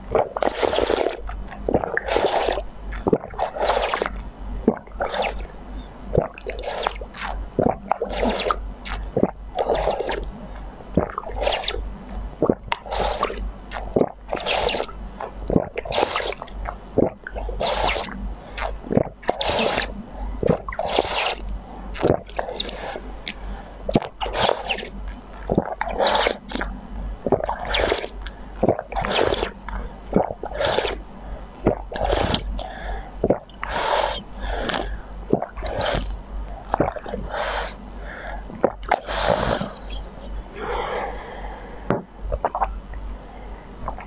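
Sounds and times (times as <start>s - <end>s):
person slurping liquid: 0.1s - 5.5s, 6.1s - 10.3s, 10.9s - 11.8s, 12.4s - 23.0s, 23.9s - 26.7s, 27.3s - 31.0s, 31.6s - 37.8s, 38.6s - 40.0s, 41.8s - 42.8s.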